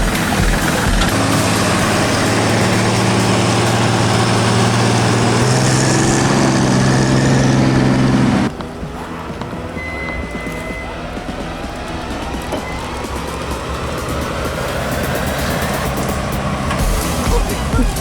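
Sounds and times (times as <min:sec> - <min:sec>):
engine running: 0:00.0 - 0:18.0
loud rushing noise: 0:00.0 - 0:18.0
rising whine: 0:00.0 - 0:18.0.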